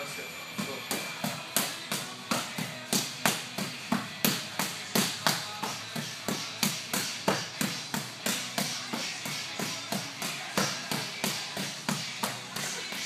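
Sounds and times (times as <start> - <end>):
boxing gloves hitting mitts: 0.7 - 13.0.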